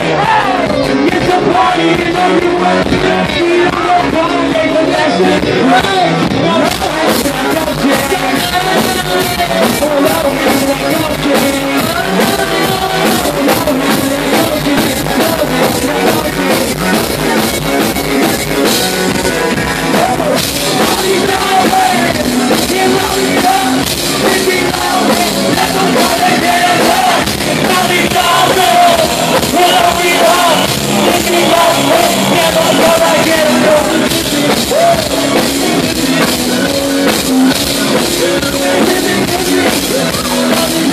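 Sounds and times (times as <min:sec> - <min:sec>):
drums: 0:00.0 - 0:40.9
electric guitar: 0:00.0 - 0:40.9
lead vocal singing: 0:00.0 - 0:40.9
live rock band playing: 0:00.0 - 0:40.9.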